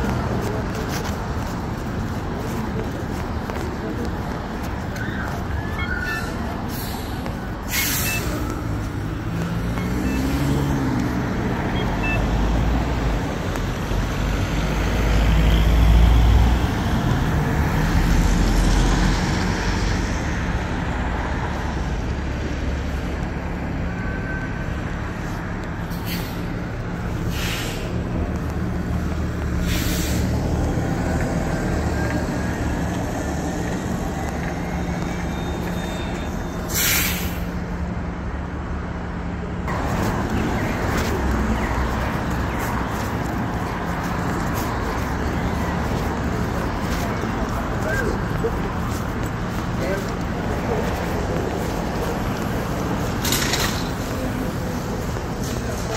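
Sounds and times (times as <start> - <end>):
bus driving past: 0.0 - 55.9
traffic hum: 0.0 - 55.9.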